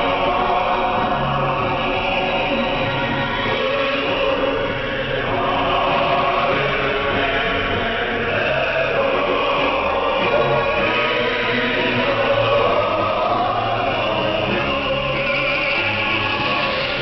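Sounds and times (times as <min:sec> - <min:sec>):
choral music over radio: 0:00.0 - 0:17.0.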